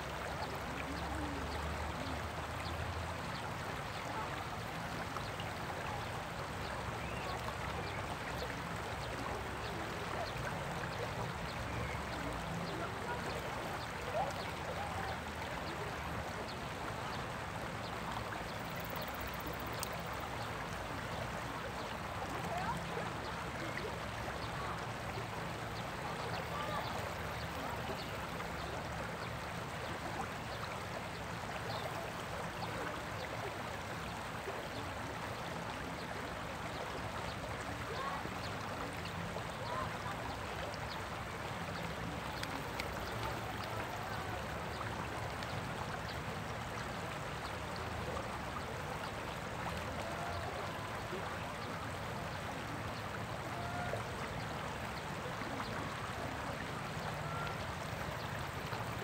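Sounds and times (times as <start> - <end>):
water rushing over rocks: 0.0 - 59.0.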